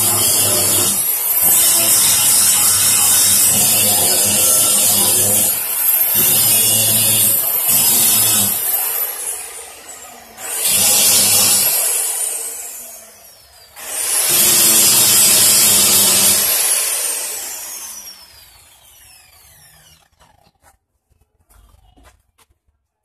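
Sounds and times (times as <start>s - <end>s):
angle grinder grinding metal: 0.0s - 20.6s.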